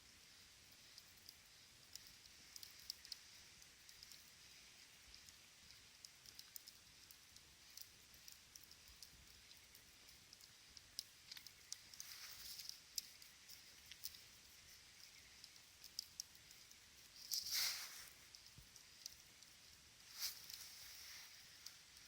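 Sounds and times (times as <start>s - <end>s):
campfire crackling: 0.9s - 22.0s.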